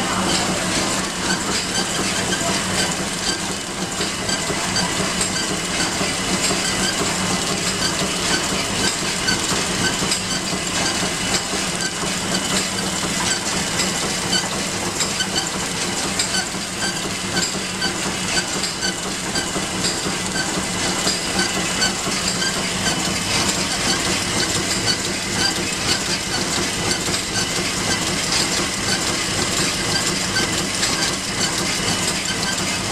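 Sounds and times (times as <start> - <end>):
packing machine clattering: 0.0 - 32.9.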